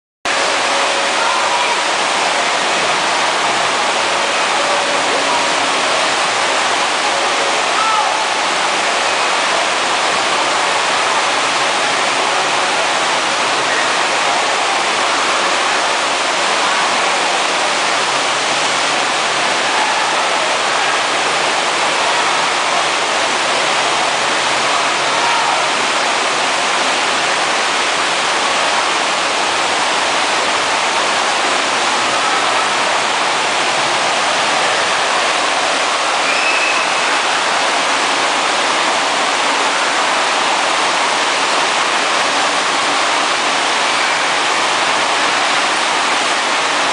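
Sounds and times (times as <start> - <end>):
rushing water sheet: 0.3 - 46.9.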